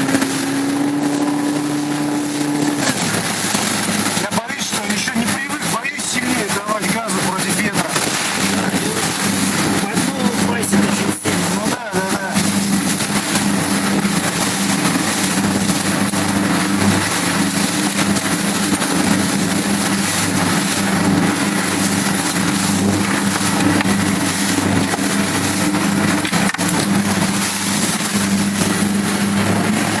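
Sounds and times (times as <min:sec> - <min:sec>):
motorboat engine running: 0:00.0 - 0:30.0.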